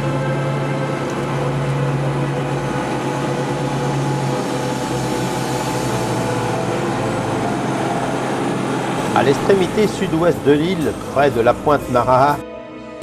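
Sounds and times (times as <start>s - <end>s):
aircraft engine drone: 0.0s - 12.4s.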